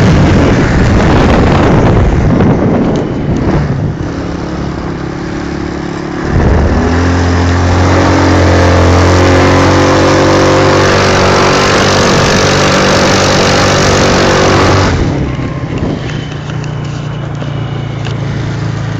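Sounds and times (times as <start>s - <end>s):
quad bike engine revving: 0.0s - 18.9s.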